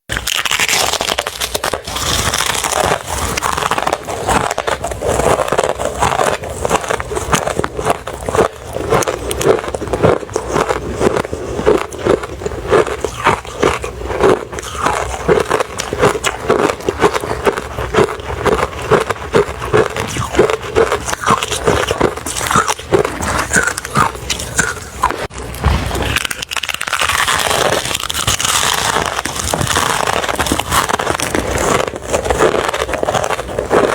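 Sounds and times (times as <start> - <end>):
ice being chewed: 0.1 - 33.9.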